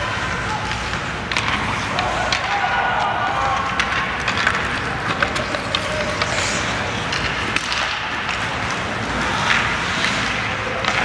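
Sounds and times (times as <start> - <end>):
sticks and skates clicking on ice: 0.0 - 11.0.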